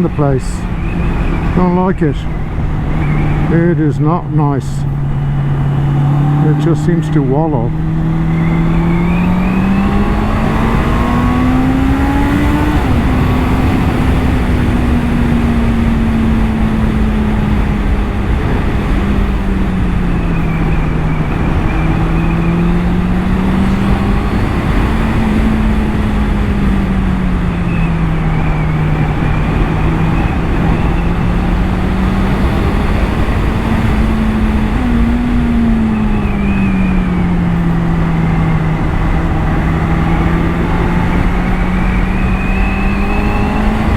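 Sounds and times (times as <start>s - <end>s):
motorcycle engine running: 0.0s - 43.9s
wind and road noise: 0.0s - 43.9s.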